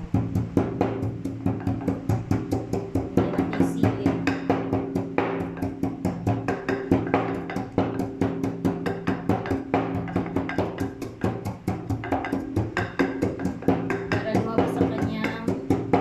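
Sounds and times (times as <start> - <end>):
pestle pounding in wooden mortar: 0.0 - 16.0.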